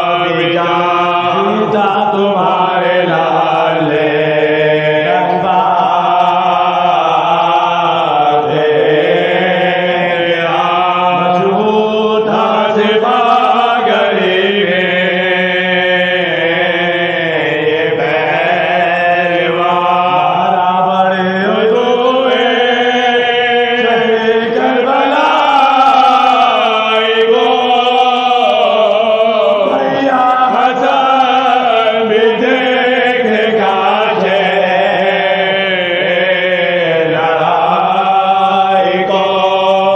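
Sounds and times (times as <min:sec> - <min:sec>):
men chanting a lament: 0:00.0 - 0:39.9.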